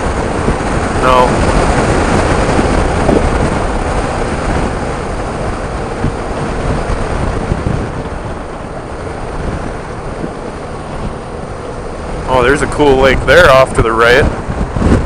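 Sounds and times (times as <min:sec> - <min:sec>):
motorcycle engine running: 0:00.0 - 0:15.0
wind rushing on microphone: 0:00.0 - 0:15.0.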